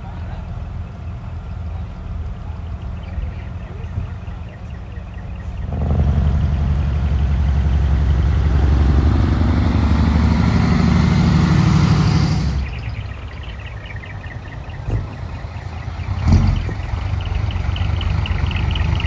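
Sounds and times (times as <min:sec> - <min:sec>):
truck diesel engine revving: 0:00.0 - 0:19.0.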